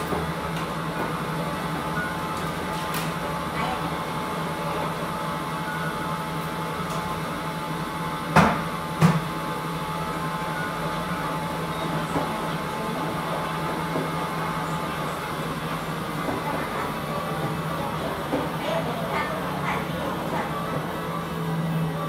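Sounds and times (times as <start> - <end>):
laundry machines humming: 0.0 - 22.0.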